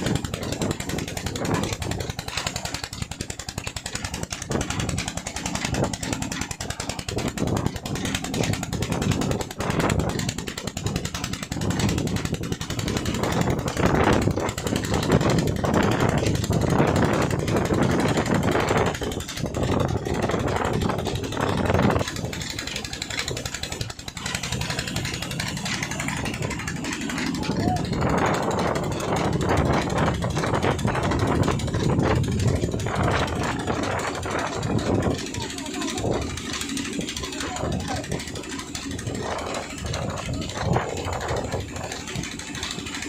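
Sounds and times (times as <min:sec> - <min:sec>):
saw machine humming: 0:00.0 - 0:43.0.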